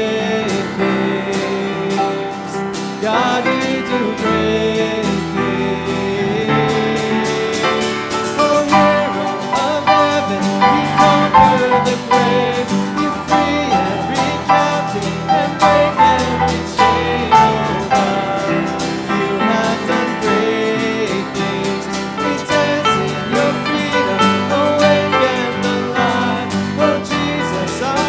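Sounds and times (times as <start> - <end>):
person singing: 0.0 - 28.0
strummed acoustic guitar: 0.0 - 28.0.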